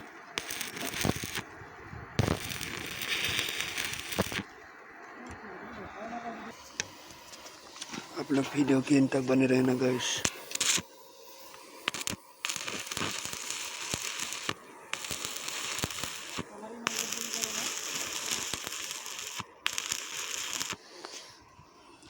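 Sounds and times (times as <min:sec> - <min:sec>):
welding arc crackling: 0:00.0 - 0:04.5, 0:06.5 - 0:20.9.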